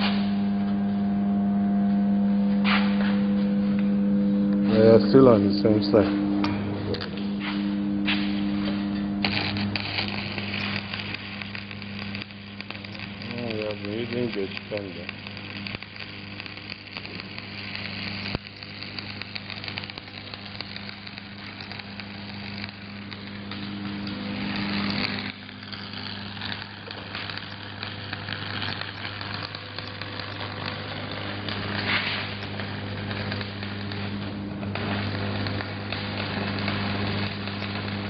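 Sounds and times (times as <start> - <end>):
welding arc crackling: 0.0 - 0.9, 2.6 - 38.0
low hum: 0.0 - 38.0.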